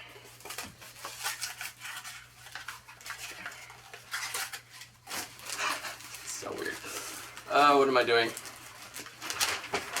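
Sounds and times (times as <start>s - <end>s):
wrapping paper rustling: 0.0s - 10.0s.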